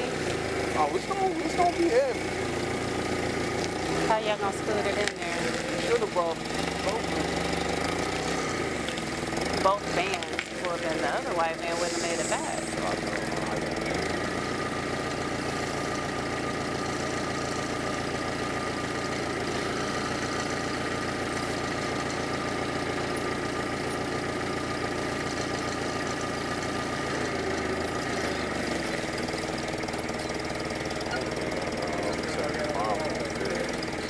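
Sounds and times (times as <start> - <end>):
forklift engine idling: 0.0 - 34.0.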